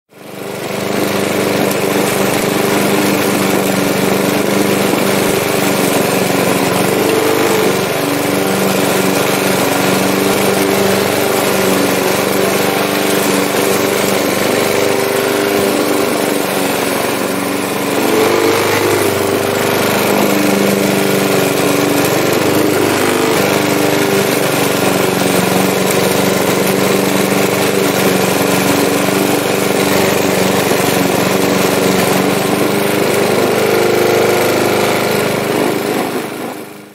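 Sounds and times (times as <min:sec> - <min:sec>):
lawn mower engine running: 0:00.1 - 0:36.9.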